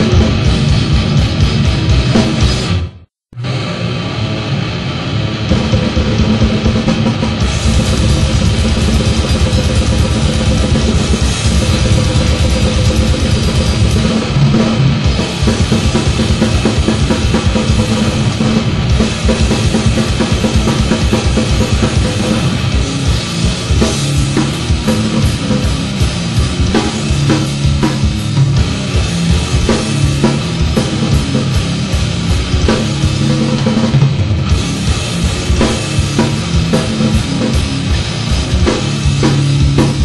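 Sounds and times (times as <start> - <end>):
loud instrumental metal band: 0.0 - 40.0.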